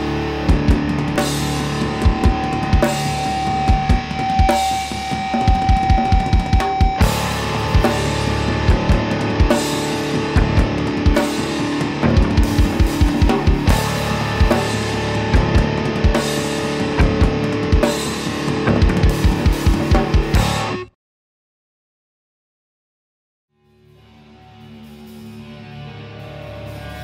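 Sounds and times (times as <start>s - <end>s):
rock band music: 0.0s - 20.9s, 24.0s - 27.0s.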